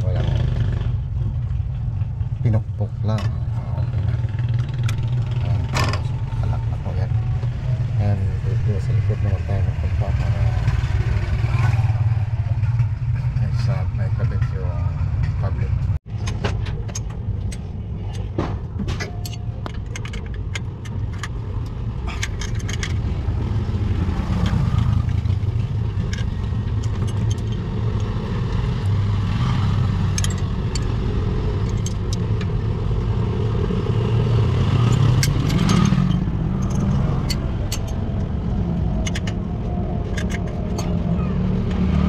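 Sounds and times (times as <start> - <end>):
low engine rumble: 0.9 - 42.0.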